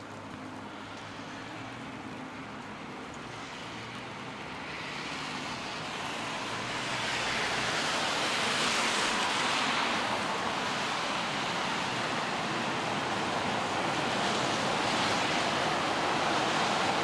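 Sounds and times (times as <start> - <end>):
rain on wet street: 0.0 - 17.0.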